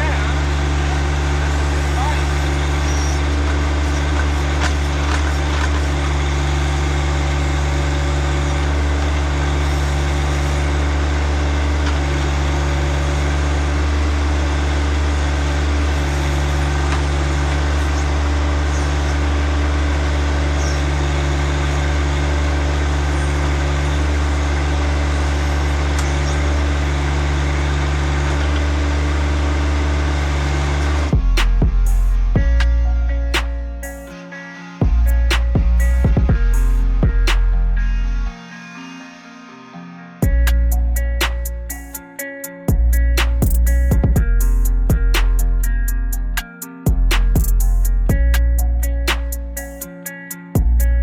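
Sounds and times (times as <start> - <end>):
tractor diesel engine running: 0.0 - 38.4, 40.2 - 51.0.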